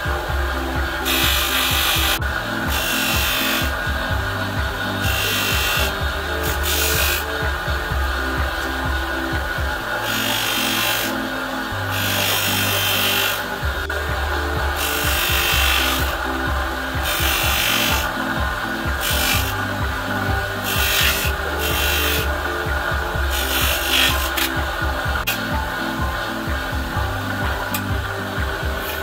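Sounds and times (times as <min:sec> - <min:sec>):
bench grinder humming: 0:00.0 - 0:29.0
rasping hiss of polishing: 0:00.0 - 0:29.0.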